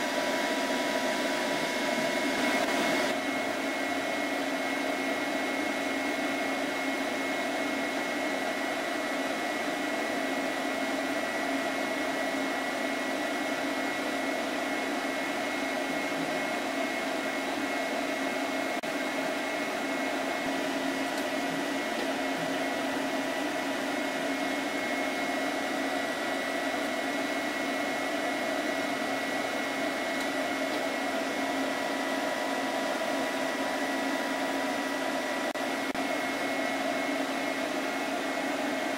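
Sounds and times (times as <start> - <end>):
computer cooling fans whirring: 0.0 - 38.9.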